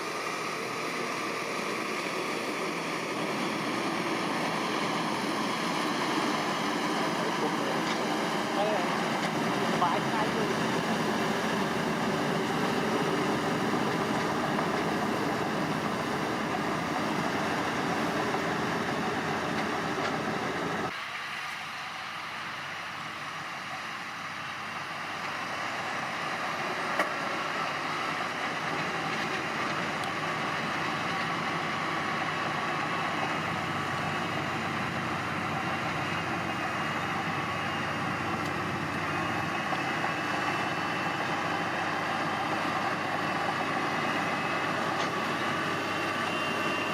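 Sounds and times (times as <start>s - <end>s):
heavy machinery engines running: 0.0s - 46.9s.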